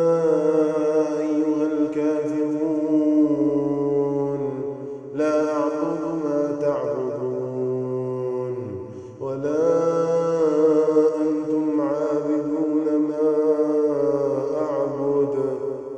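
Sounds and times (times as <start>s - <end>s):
man chanting melodically: 0.0s - 15.9s.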